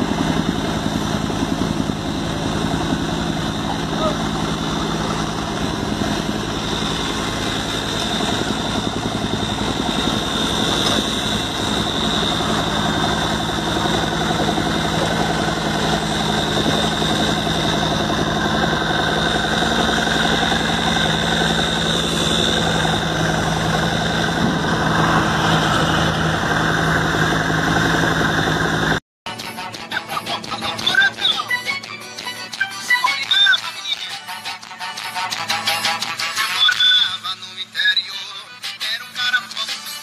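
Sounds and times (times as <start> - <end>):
excavator engine running: 0.0 - 40.0
high whine: 0.0 - 40.0.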